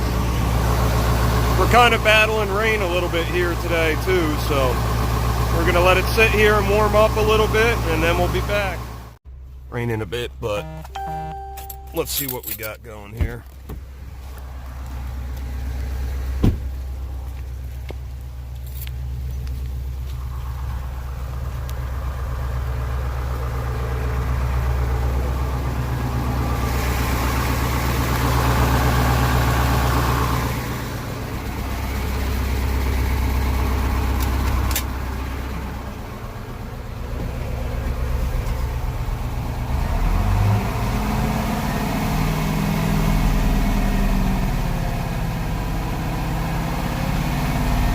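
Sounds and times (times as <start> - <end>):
diesel truck engine revving: 0.0 - 10.8, 13.8 - 47.9.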